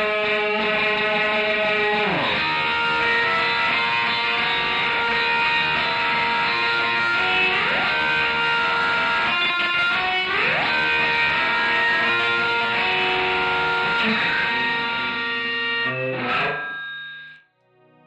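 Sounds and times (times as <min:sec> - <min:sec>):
electric guitar ringing chords: 0:00.0 - 0:18.0.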